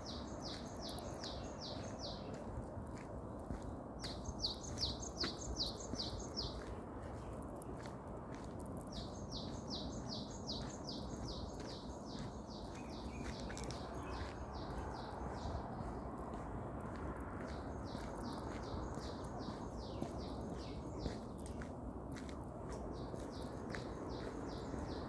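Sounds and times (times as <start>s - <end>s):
songbird singing: 0.0s - 25.0s.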